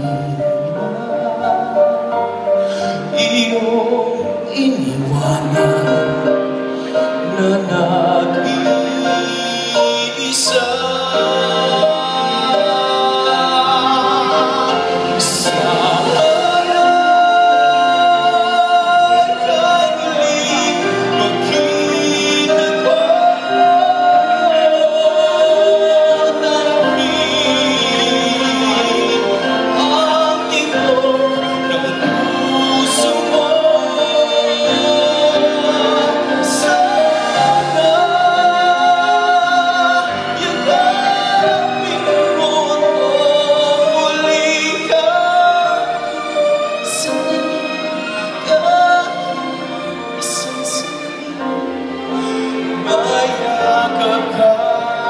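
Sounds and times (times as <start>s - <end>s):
live orchestra accompanying: 0.0s - 55.0s
man singing a slow ballad: 2.7s - 51.2s.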